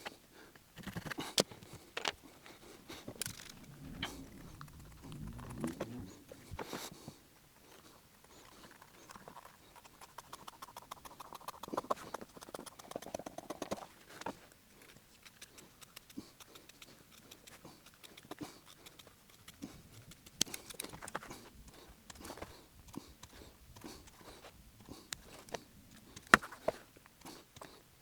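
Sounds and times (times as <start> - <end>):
clicks snips and scrapes on leather: 0.8 - 6.0, 8.3 - 28.0.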